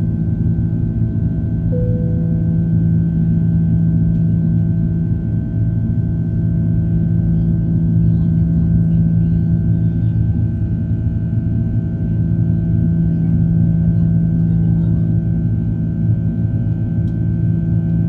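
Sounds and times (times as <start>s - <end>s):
high engine whine: 0.0s - 18.0s
jet engines droning in cabin: 0.0s - 18.0s.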